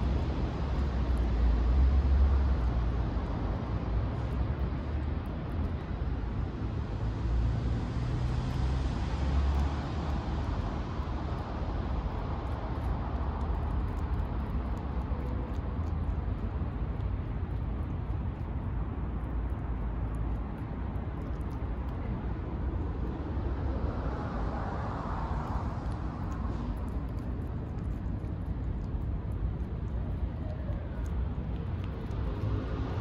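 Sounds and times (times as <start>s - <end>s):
distant traffic rumble: 0.0s - 33.0s.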